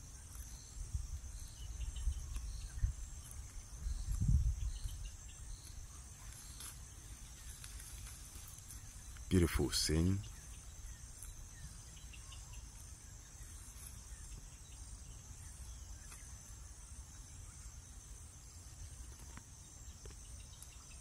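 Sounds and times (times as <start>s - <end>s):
faint bird chirps: 0.1s - 18.0s.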